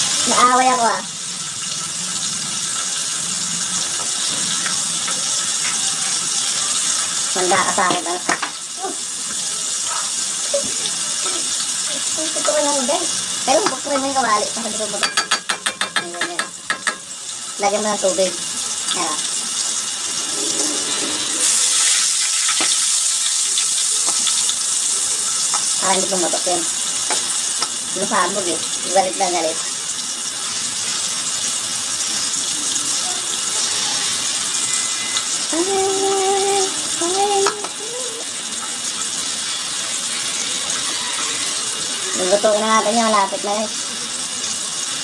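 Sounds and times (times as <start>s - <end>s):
oil sizzling in a wok: 0.0s - 45.0s.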